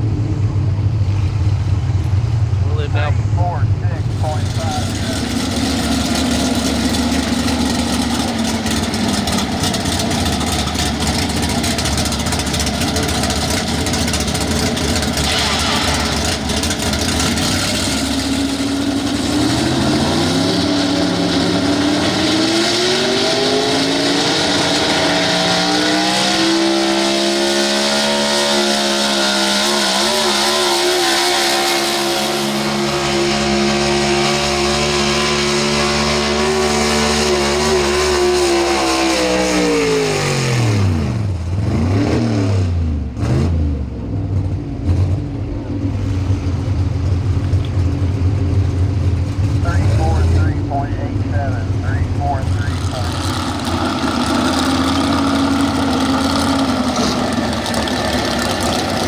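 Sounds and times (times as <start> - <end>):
engine throttle blips: 0.0 - 59.0
truck engine revving under load: 0.0 - 59.0.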